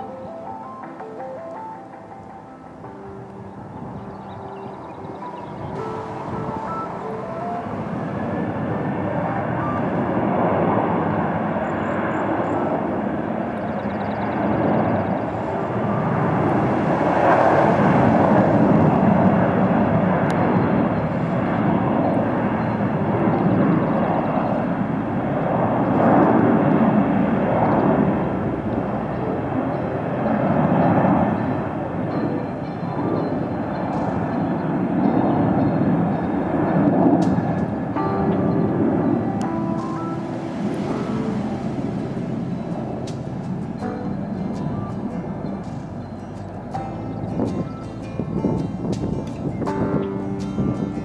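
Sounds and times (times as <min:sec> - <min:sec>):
jet engines roaring on takeoff: 0:00.0 - 0:46.8.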